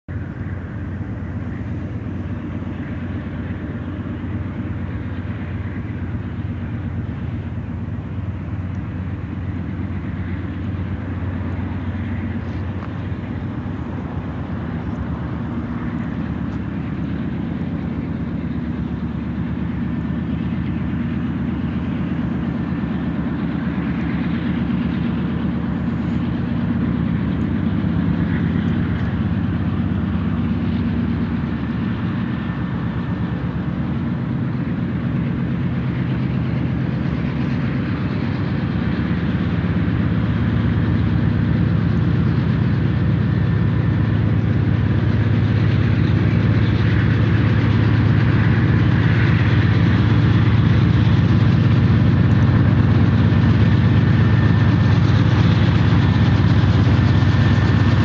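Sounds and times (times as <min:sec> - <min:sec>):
diesel locomotive engines rumbling: 0:00.1 - 0:58.0.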